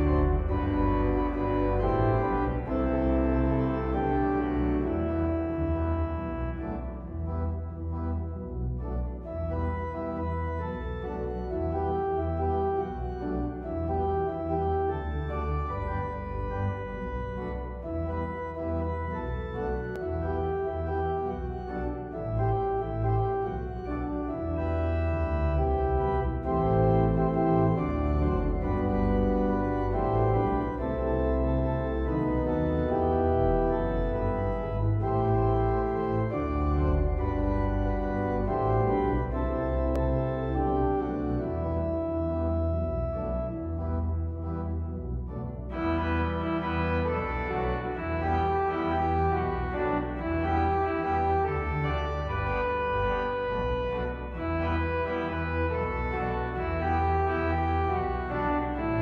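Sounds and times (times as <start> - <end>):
organ playing a hymn: 0.0 - 59.0.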